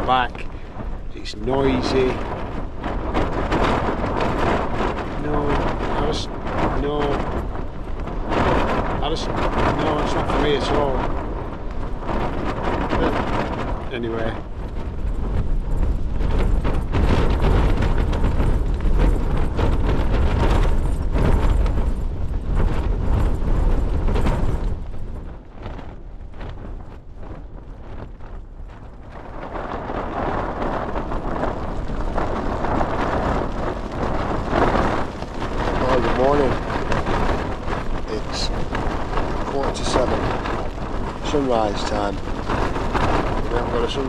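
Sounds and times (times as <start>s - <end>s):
tent fabric flapping: 0.0s - 44.0s
wind noise on microphone: 0.0s - 44.0s.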